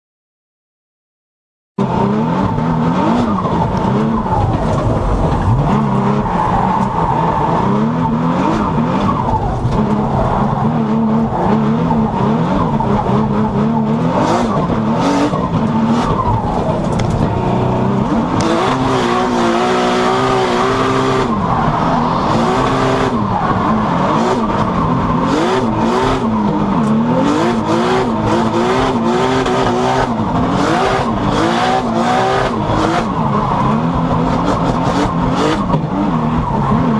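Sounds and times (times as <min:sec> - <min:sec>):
car engine revving: 0:01.8 - 0:36.9.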